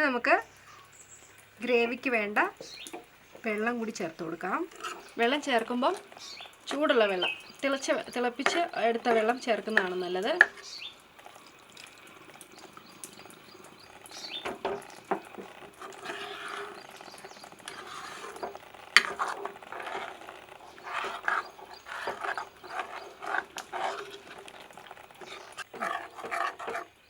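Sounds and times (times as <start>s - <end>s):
spoon stirring gravy in a pan: 0.0s - 27.0s.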